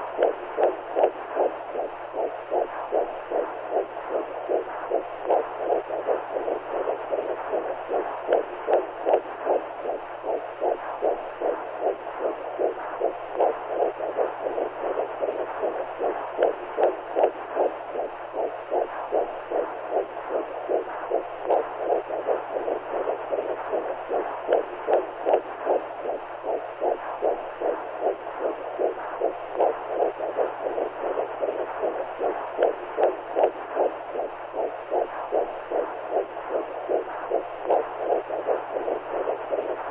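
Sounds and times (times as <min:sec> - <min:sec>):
constant low hum: 0:00.0 - 0:39.9
muffled heartbeat whooshing: 0:00.0 - 0:39.9.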